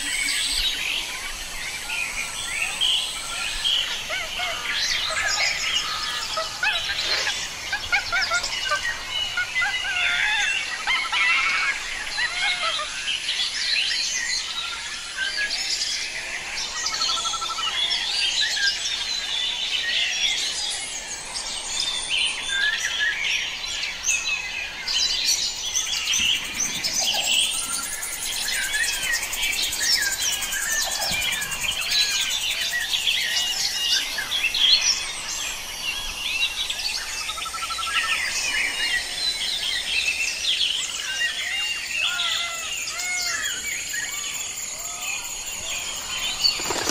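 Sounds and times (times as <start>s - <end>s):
birds chirping and calling: 0.0s - 46.9s.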